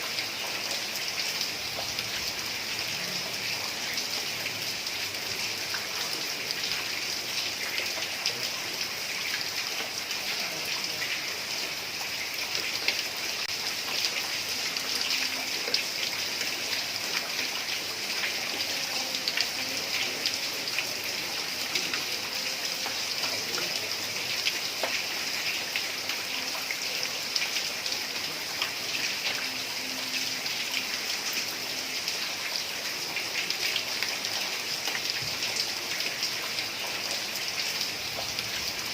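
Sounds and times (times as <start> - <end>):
heavy rain on a tiled roof: 0.0 - 38.9.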